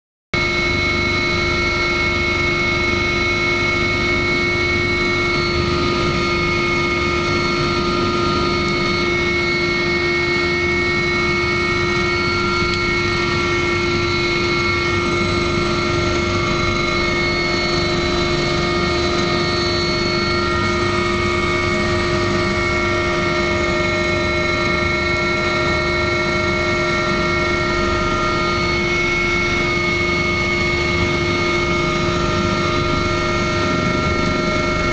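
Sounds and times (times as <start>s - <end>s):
helicopter engine whine: 0.4s - 34.9s.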